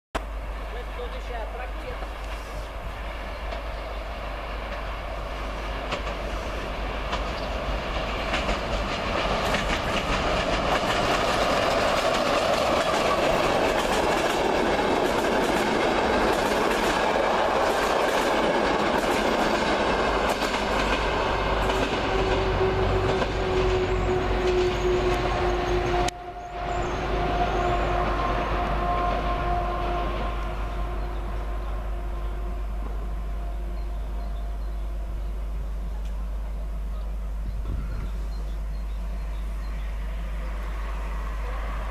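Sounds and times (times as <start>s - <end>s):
train rumble and wheel clatter: 0.2s - 41.9s.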